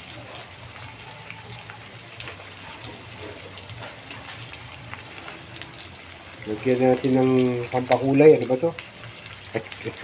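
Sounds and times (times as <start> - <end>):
pork sizzling in a wok: 0.0 - 10.0.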